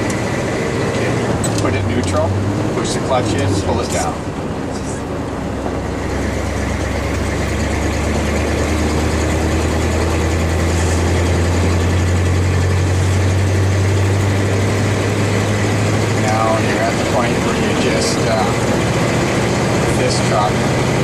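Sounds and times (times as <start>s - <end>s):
truck engine droning in gear: 0.0s - 21.0s.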